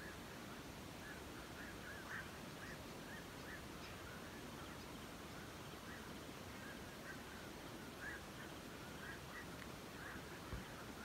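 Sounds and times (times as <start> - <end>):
flock of birds calling: 0.0 - 11.0
steady low hiss: 0.0 - 11.0.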